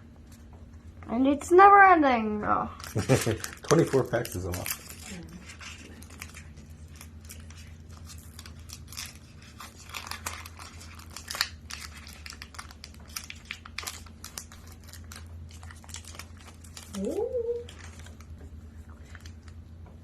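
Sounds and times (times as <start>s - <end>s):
foil wrapper crinkling and tearing: 2.7s - 19.7s.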